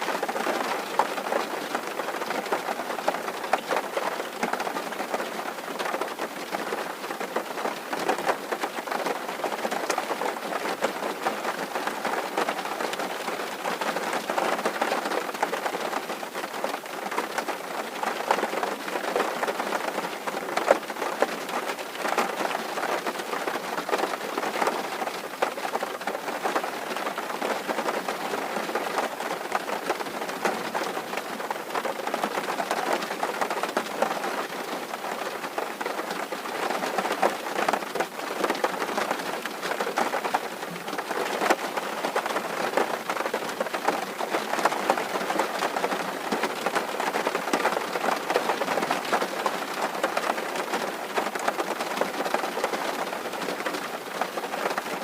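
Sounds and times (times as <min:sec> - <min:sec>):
rain drumming on a tin roof: 0:00.0 - 0:55.0.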